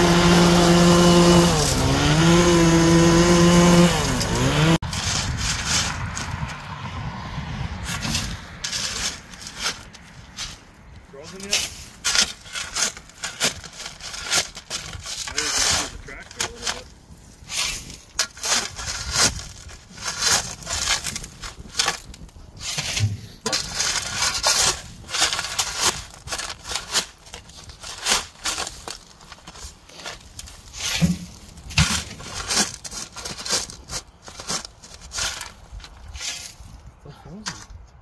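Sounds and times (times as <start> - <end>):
gravel crunching and scraping: 0.0 - 38.0.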